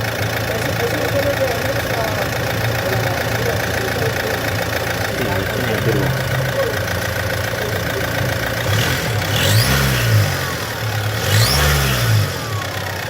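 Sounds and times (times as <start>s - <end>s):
diesel engine idling and revving: 0.0s - 13.0s.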